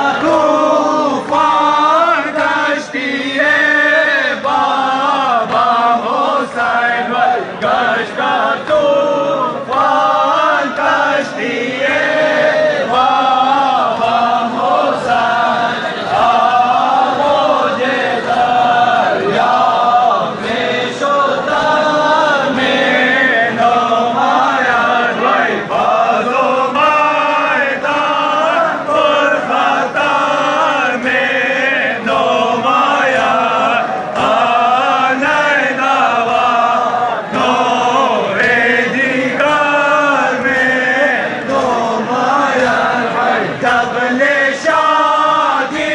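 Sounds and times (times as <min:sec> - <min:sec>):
crowd of men chanting: 0:00.0 - 0:45.9
rhythmic chest-beating: 0:00.0 - 0:45.9.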